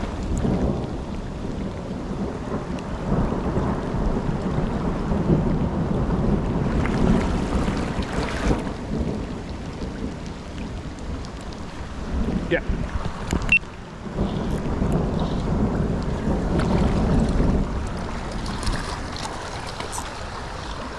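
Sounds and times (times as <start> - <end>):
rolling rumble of thunder: 0.0 - 20.9
rushing water: 0.0 - 20.9
wind on microphone: 0.0 - 20.9.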